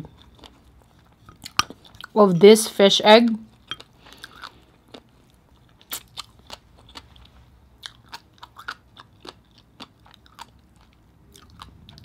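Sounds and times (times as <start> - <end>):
person chewing food: 0.0 - 2.2, 3.4 - 12.0.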